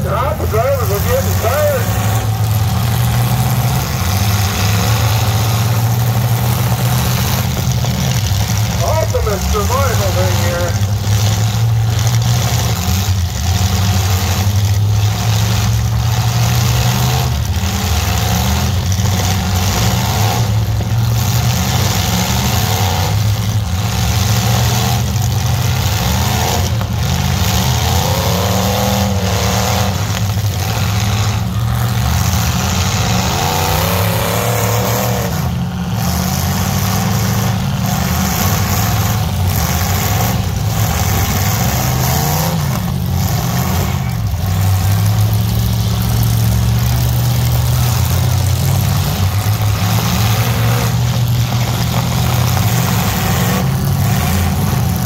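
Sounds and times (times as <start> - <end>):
engines revving: 0.0 - 55.0
truck engines running loudly: 0.0 - 55.0.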